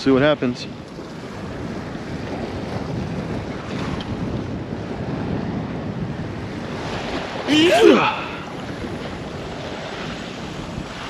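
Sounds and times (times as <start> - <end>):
wind buffeting microphone: 0.0 - 11.0
waves breaking against rocks: 0.1 - 11.0.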